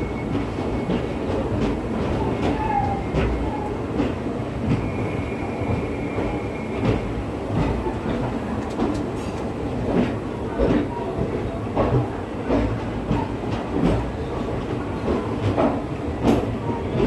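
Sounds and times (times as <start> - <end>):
low train rumble: 0.0 - 17.0
train wheels clacking: 0.0 - 17.0.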